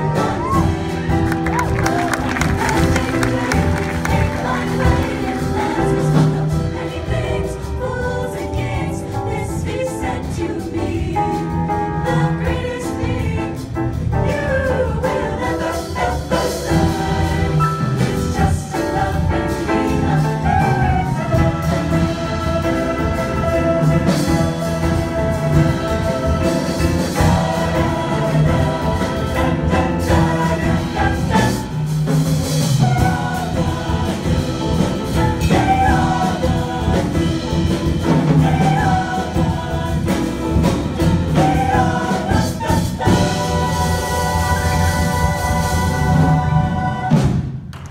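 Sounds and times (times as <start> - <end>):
choir singing in harmony: 0.0 - 47.7.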